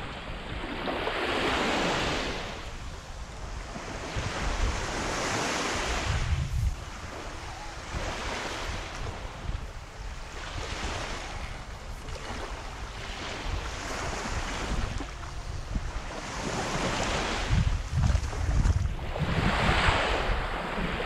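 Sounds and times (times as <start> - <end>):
small waves washing onto sand: 0.0 - 21.0
wind rumble on microphone: 0.0 - 21.0.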